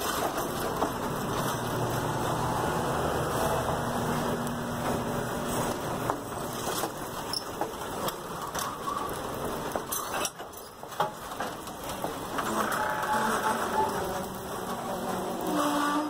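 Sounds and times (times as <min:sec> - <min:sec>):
rain hissing: 0:00.0 - 0:16.0
train wheels clicking and knocking: 0:00.0 - 0:16.0.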